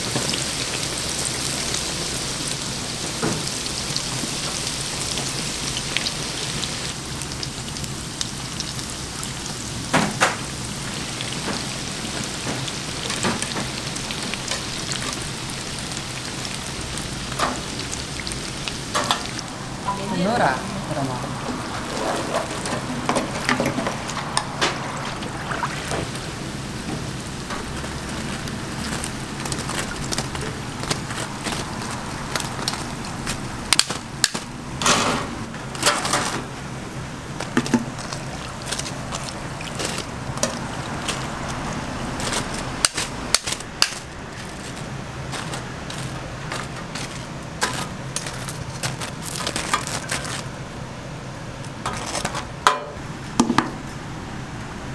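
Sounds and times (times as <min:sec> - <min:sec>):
oil sizzling in deep fryer: 0:00.0 - 0:54.9.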